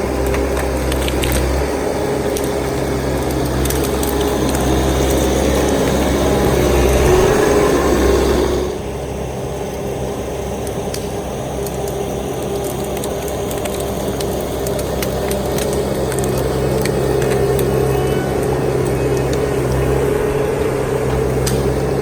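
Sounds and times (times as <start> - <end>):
wood cracking: 0.0 - 8.7, 10.6 - 22.0
diesel engine running: 0.0 - 22.0.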